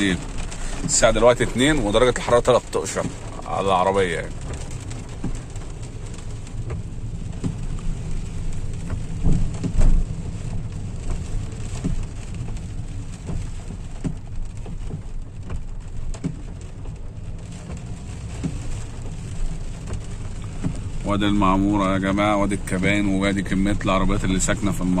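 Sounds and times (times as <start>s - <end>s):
car road rumble: 0.0s - 25.0s
rain hitting car roof: 0.0s - 25.0s.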